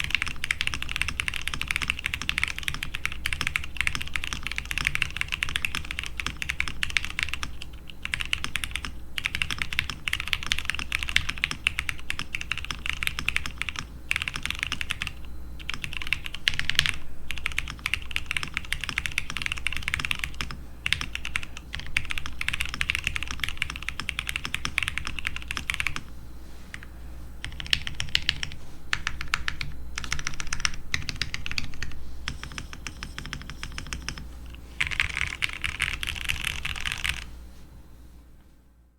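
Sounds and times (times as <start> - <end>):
mechanical keyboard typing: 0.0 - 26.1, 27.4 - 37.3.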